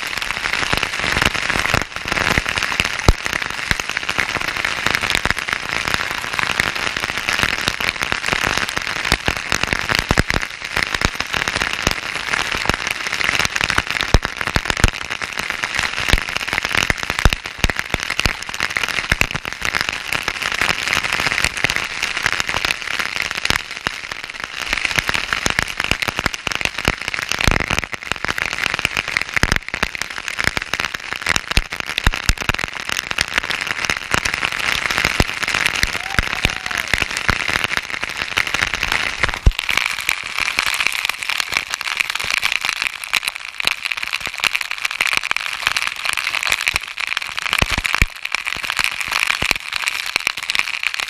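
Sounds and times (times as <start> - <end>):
water pouring and splashing: 0.0 - 51.0.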